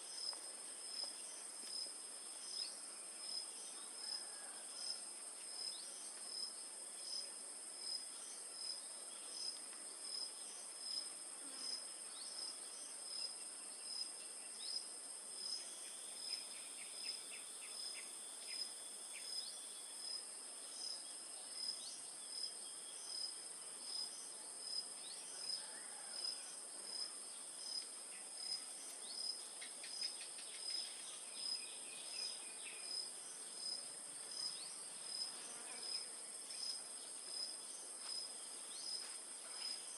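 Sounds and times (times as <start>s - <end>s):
cricket chirping: 0.0s - 39.9s
high insect drone: 0.0s - 39.9s.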